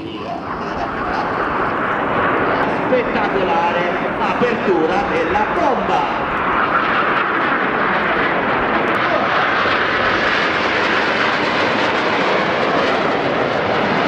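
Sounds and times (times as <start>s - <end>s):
jet aircraft roaring past: 0.0s - 14.0s.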